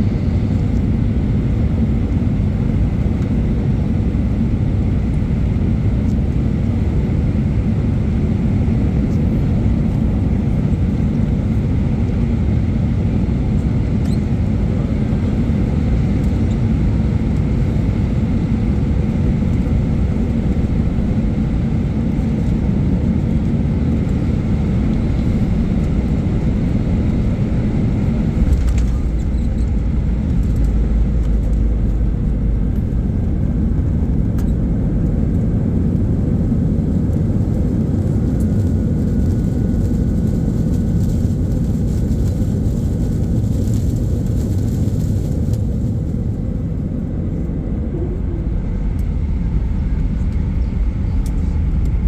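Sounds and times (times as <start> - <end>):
aircraft rumble: 0.0 - 52.0.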